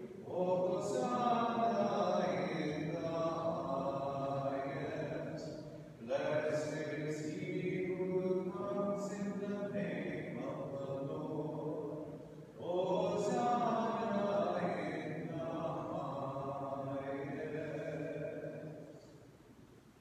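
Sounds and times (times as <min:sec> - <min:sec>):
sung liturgical chant: 0:00.0 - 0:19.2.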